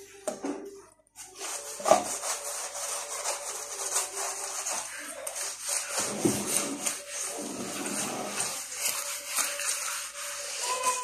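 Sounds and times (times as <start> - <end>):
scouring pad scrubbing tiles: 1.1 - 11.0.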